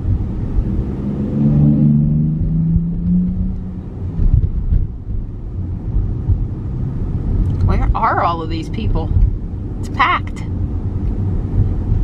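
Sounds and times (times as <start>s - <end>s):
low engine drone of vehicle: 0.0s - 12.0s
road and tyre rumble in car: 0.0s - 12.0s.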